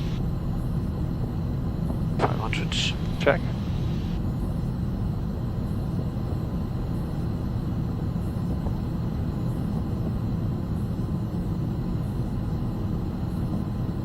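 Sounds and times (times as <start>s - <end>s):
low rumble of airflow and engines: 0.0s - 13.8s.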